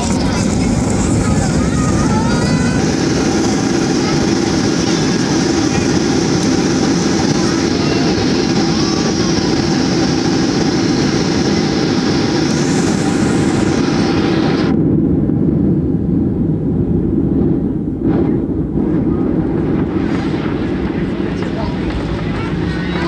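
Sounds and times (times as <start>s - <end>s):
airplane engines roaring: 0.0s - 23.0s
low rumble: 0.0s - 23.0s.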